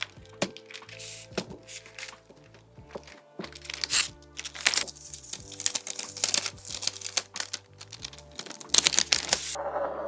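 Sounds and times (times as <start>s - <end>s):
parchment paper crinkling: 0.0s - 9.6s.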